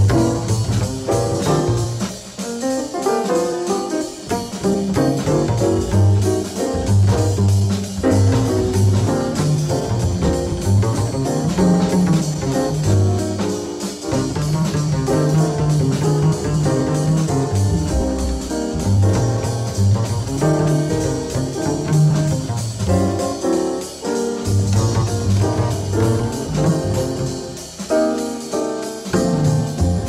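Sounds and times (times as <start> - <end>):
jazz music: 0.0 - 30.0.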